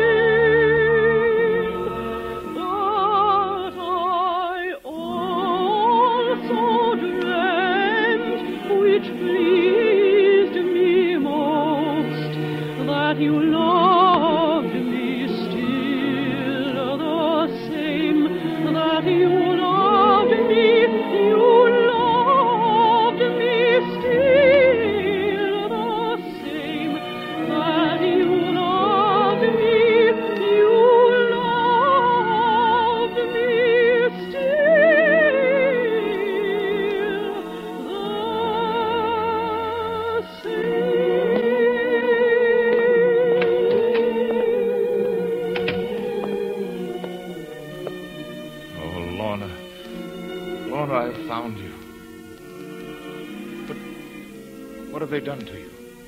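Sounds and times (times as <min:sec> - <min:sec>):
operatic solo singing: 0:00.0 - 0:55.8
orchestral accompaniment: 0:00.0 - 0:56.0.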